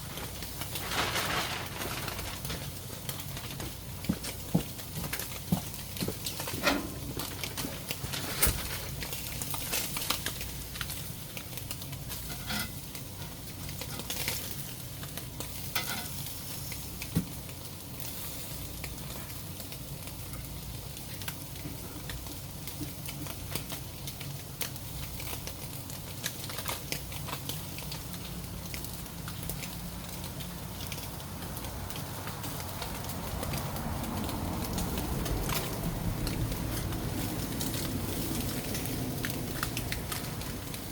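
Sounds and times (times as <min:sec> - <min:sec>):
frying crackles and pops: 0:00.0 - 0:40.9.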